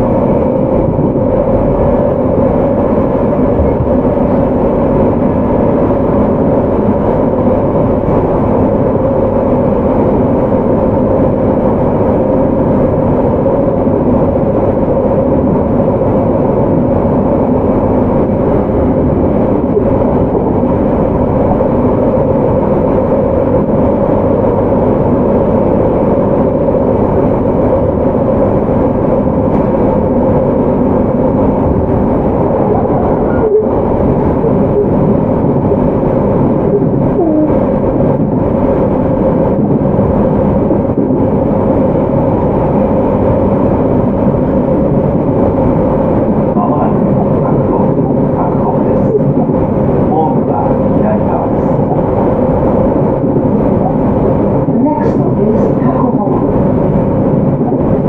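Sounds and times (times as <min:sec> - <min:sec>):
train running rumble on board: 0:00.0 - 0:58.0.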